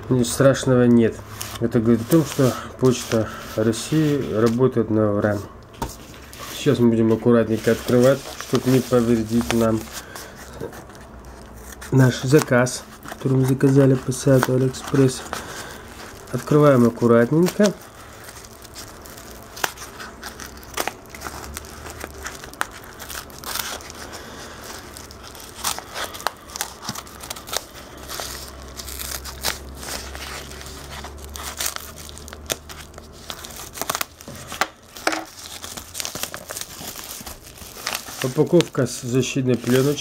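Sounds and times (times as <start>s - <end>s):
envelope crinkling: 1.2s - 4.8s, 5.9s - 40.0s.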